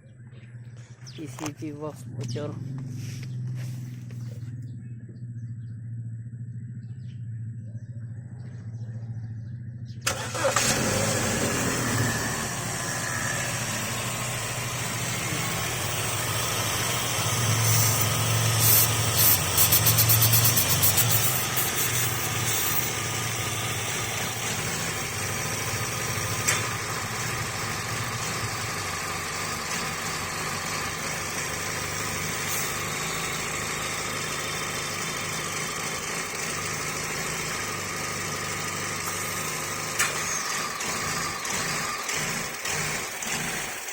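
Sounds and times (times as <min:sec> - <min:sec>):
car engine idling roughly: 0:00.1 - 0:43.9.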